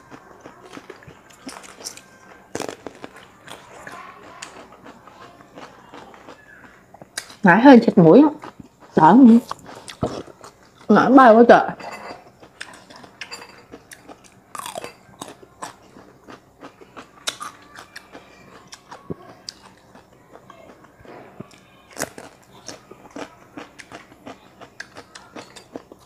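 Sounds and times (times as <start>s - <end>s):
crunchy chewing of cucumber: 0.0s - 7.4s, 8.0s - 10.9s, 12.2s - 26.0s.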